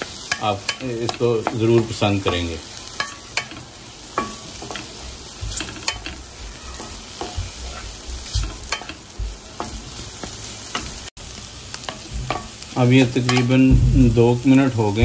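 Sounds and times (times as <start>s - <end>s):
spatula scraping and knocking pan: 0.0s - 11.1s, 11.8s - 15.0s
food sizzling in a wok: 0.0s - 15.0s.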